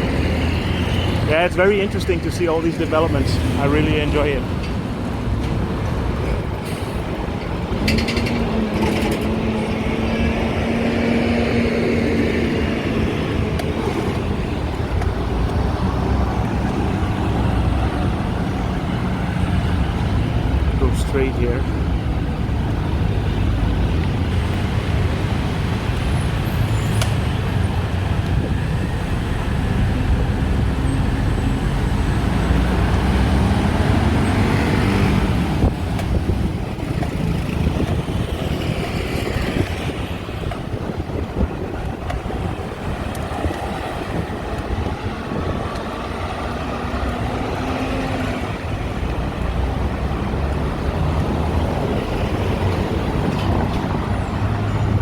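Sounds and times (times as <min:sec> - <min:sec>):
busy road traffic: 0:00.0 - 0:55.0.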